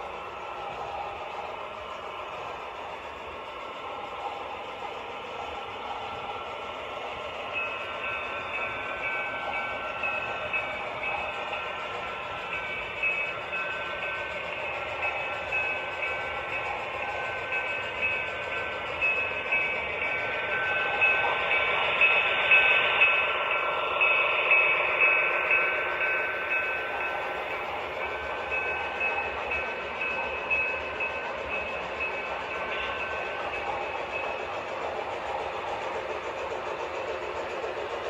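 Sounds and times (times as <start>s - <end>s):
model train clicking: 0.0s - 38.0s
model train whine: 0.0s - 38.0s.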